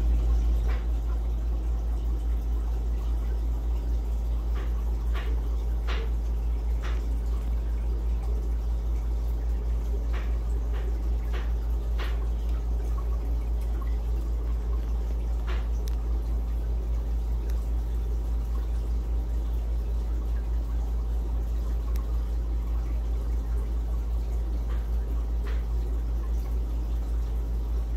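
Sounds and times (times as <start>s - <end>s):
steady low hum: 0.0s - 27.9s
water drips: 0.0s - 27.9s.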